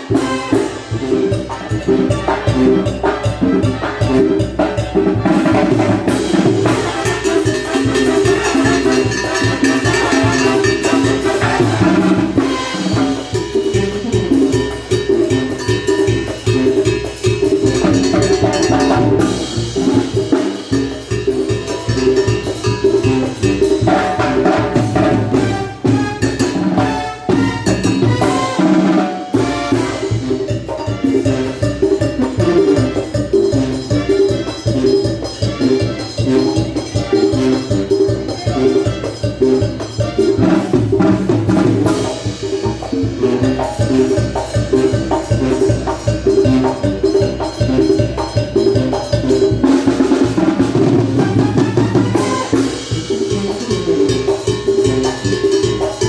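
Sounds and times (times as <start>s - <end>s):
drum and percussion beat: 0.0s - 56.0s
live band playing dance music: 0.0s - 56.0s.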